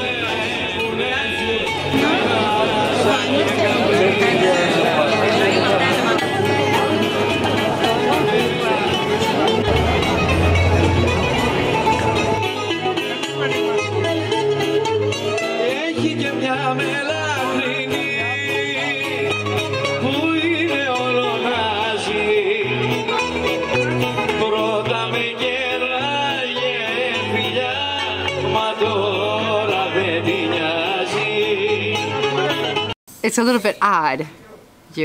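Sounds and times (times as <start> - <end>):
folk dance music: 0.0 - 32.9.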